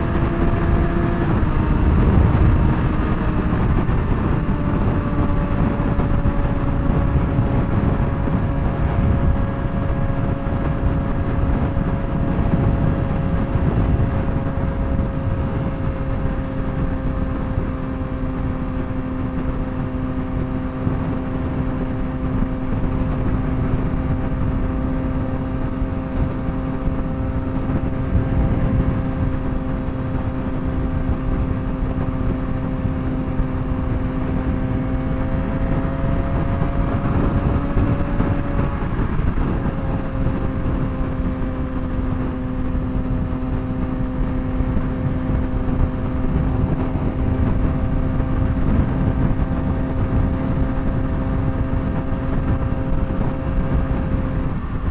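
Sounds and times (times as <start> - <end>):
motorcycle engine cruising: 0.0 - 54.9
wind rush: 0.0 - 54.9.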